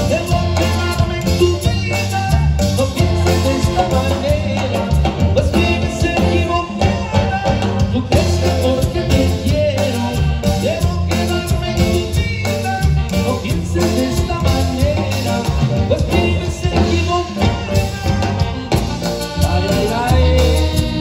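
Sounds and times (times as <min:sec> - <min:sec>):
latin dance band playing: 0:00.0 - 0:21.0.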